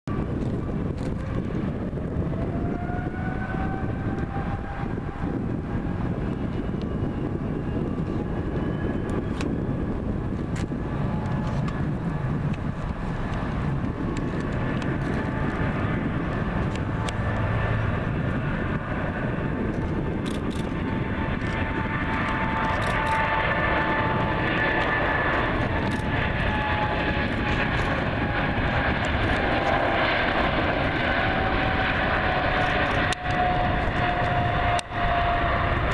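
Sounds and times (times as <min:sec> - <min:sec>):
jet engines spooling up: 0:00.1 - 0:35.9.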